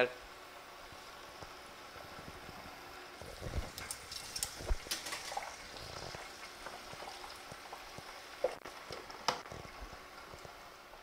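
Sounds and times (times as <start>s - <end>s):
sausages sizzling in hot oil: 0.0s - 11.0s.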